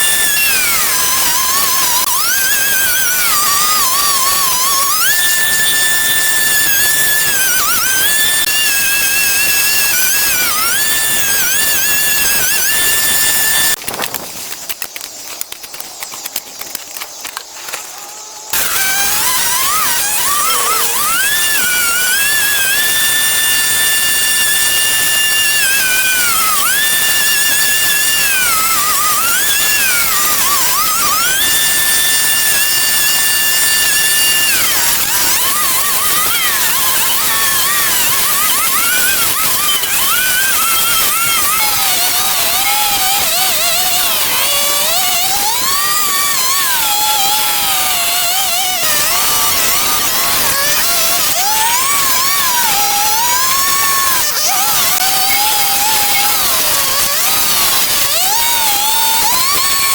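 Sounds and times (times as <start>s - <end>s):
loud hiss: 0.0s - 59.9s
power tool motor whining: 0.0s - 59.9s.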